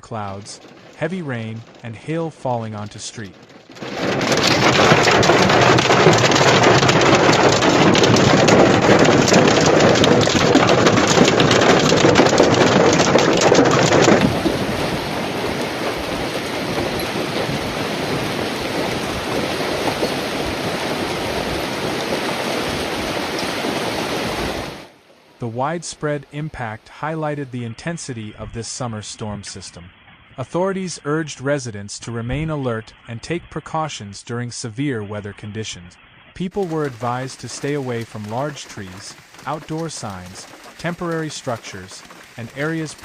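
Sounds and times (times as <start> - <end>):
heavy rain: 0.0 - 29.6, 36.4 - 43.0.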